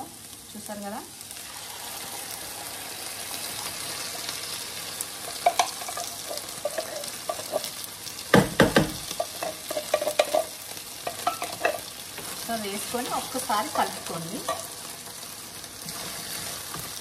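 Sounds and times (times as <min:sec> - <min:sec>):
food sizzling in frying pan: 0:00.0 - 0:17.0.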